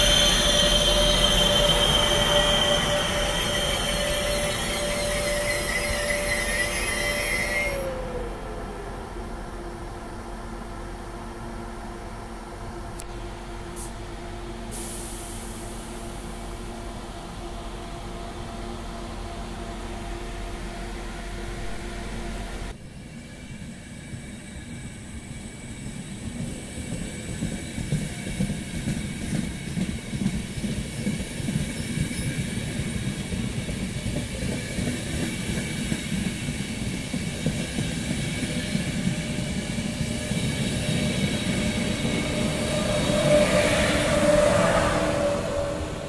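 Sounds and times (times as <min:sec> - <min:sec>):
electric locomotive whine: 0:00.0 - 0:46.0
train wheels rumbling on rails: 0:00.0 - 0:46.0.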